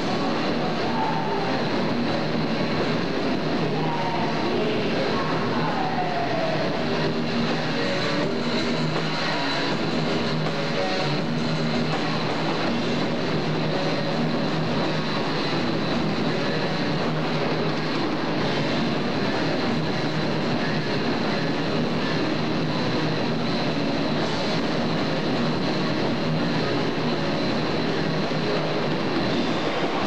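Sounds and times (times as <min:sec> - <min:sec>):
distorted electric guitar: 0:00.0 - 0:30.0.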